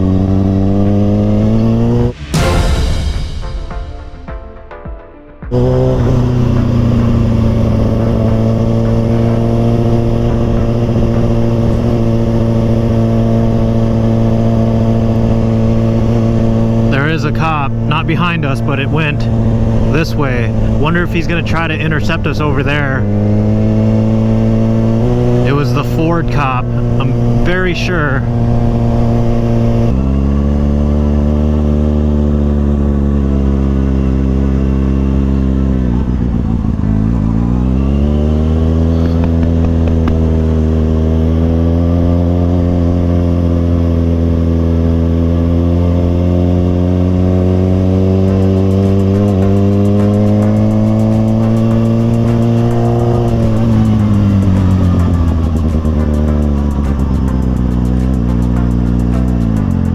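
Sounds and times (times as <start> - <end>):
motorcycle engine running: 0.0 - 3.0, 5.5 - 59.9.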